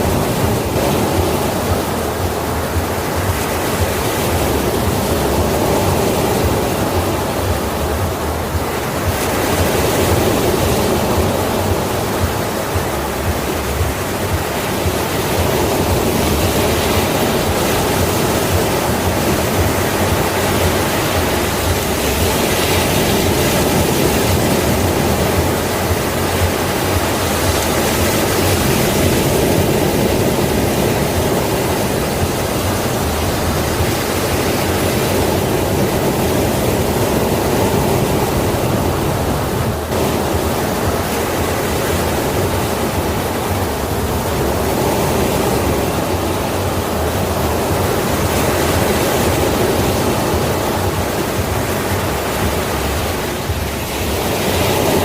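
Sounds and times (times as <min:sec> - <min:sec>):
sea waves rushing: 0:00.0 - 0:55.0.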